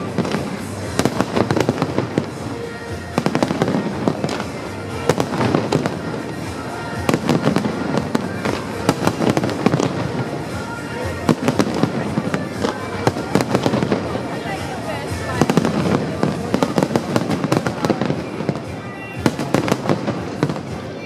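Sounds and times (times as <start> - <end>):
fireworks cracking and banging: 0.0 - 21.0.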